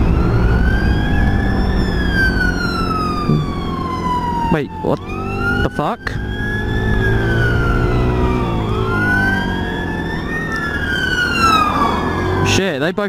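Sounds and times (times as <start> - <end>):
police sirens wailing: 0.0 - 12.9
low hum of traffic: 0.0 - 13.0.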